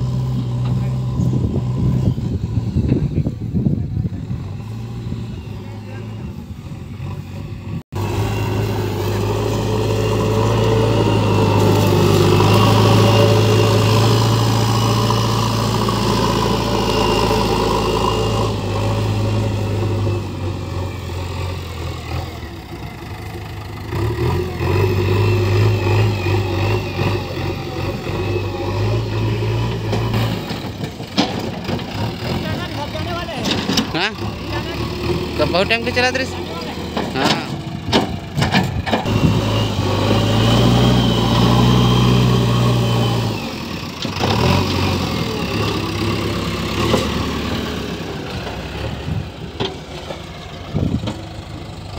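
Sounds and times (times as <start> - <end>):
diesel engine running hard: 0.0 - 51.9.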